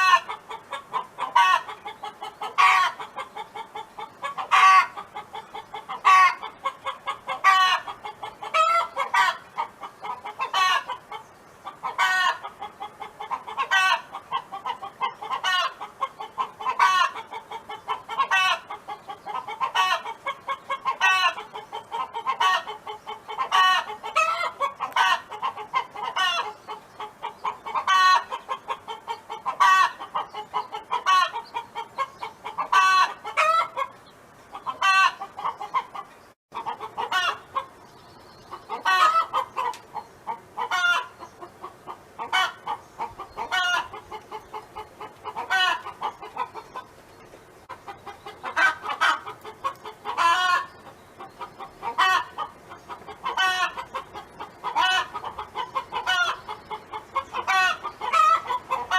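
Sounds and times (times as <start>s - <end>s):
hens clucking: 0.0s - 58.9s.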